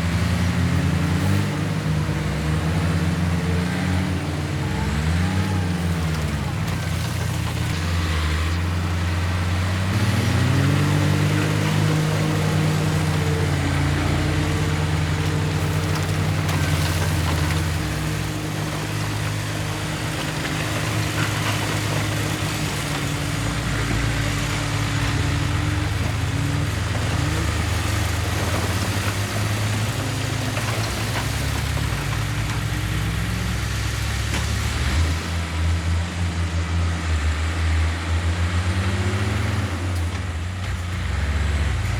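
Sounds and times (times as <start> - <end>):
heavy diesel engine revving: 0.0 - 41.9.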